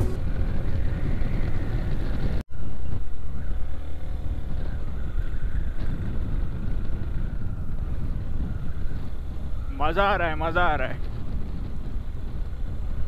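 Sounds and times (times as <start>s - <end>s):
motorcycle engine running: 0.0s - 2.4s, 3.3s - 13.0s.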